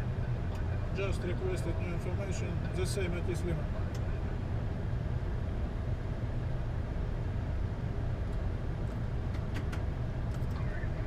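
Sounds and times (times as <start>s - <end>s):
aircraft cockpit low rumble: 0.0s - 11.0s.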